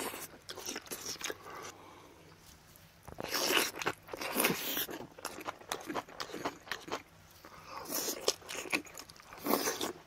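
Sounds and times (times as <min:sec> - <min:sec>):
man slurping and chewing: 0:00.0 - 0:01.7, 0:03.2 - 0:10.0.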